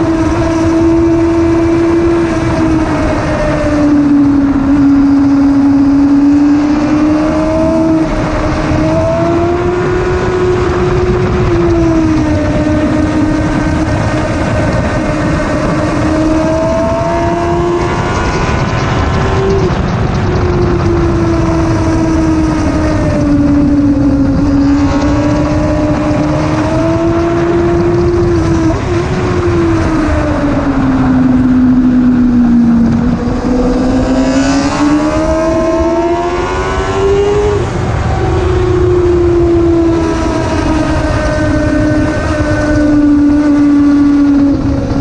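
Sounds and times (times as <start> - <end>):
motorcycle engine at high revs: 0.0 - 45.0
wind noise on microphone: 0.0 - 45.0.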